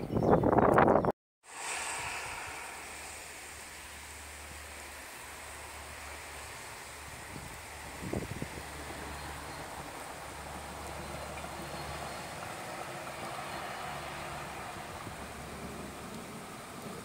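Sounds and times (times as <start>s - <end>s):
outdoor noise hiss: 1.4s - 17.0s
diesel train passing: 1.5s - 17.0s.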